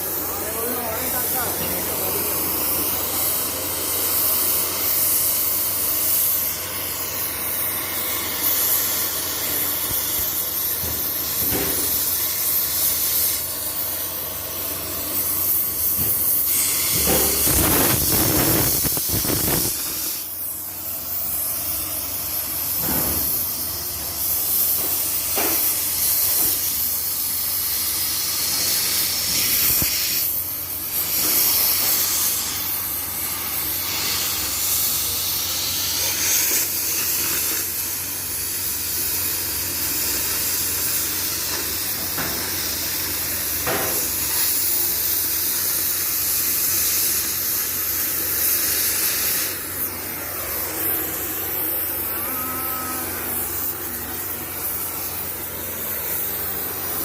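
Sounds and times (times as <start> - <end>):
welding arc sizzling hiss: 0.0 - 57.0.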